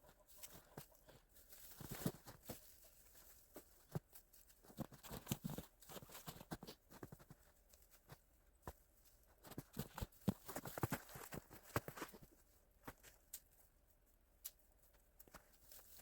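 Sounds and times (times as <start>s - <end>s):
faint knocks and crunches: 0.2s - 13.6s.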